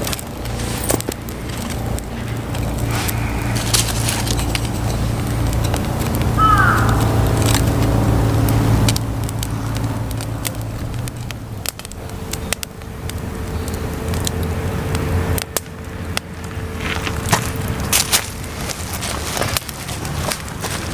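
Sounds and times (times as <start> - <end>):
kindling crackling and popping: 0.0 - 20.9
low steady rumble: 0.0 - 20.9.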